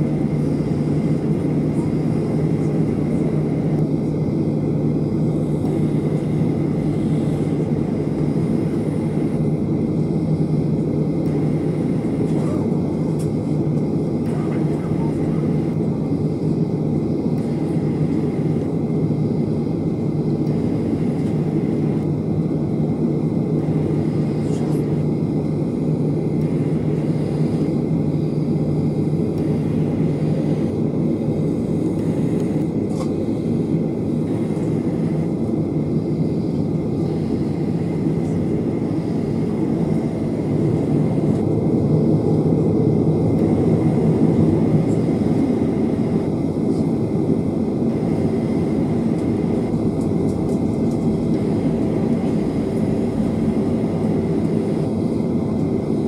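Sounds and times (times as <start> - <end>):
aircraft cabin rumble: 0.0 - 56.0
jet engines idling hum: 0.0 - 56.0.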